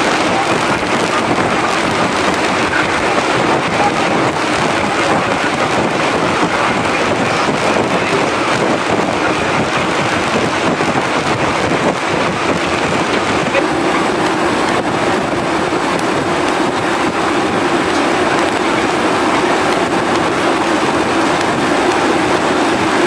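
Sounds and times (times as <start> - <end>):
ship moving through sea: 0.0 - 23.0
wind on microphone: 0.0 - 23.0.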